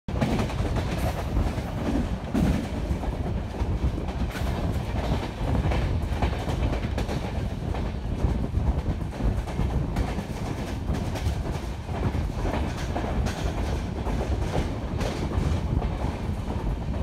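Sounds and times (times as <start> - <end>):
train wheels rumbling on rail: 0.1 - 17.0.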